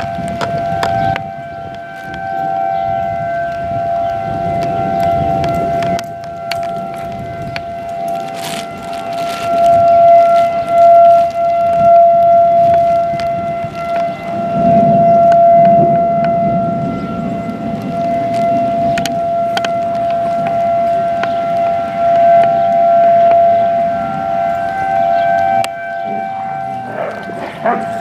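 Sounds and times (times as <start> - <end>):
tornado warning siren: 0.0 - 28.0.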